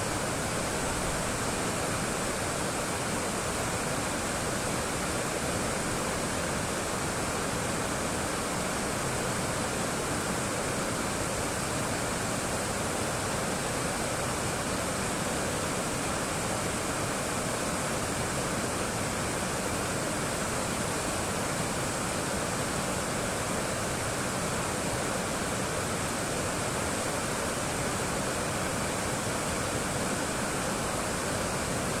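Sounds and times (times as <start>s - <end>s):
river water rushing over weir: 0.0s - 32.0s.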